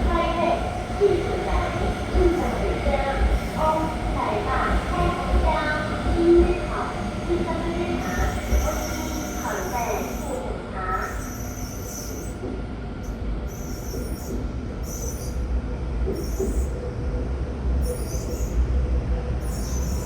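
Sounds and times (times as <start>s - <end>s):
electric train rumble: 0.0s - 20.0s
train hum: 0.0s - 20.0s.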